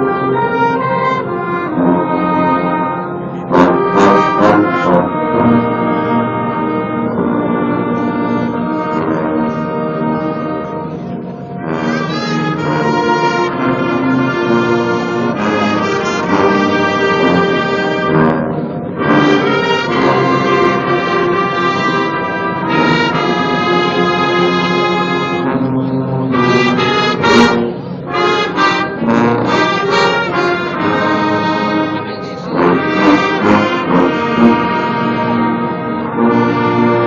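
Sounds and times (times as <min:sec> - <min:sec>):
brass band playing a hymn: 0:00.0 - 0:37.0.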